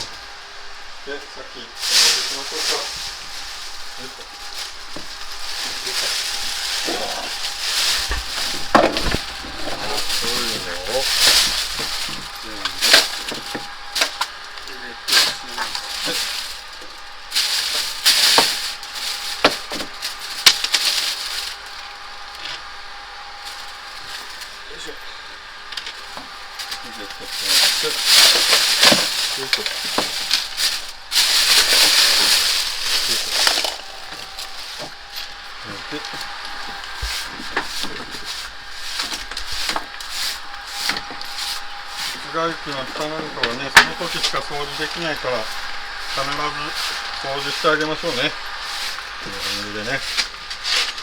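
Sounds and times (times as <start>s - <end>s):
rustling and handling noise: 0.0s - 51.0s
brush sweeping: 1.7s - 22.0s, 26.0s - 51.0s.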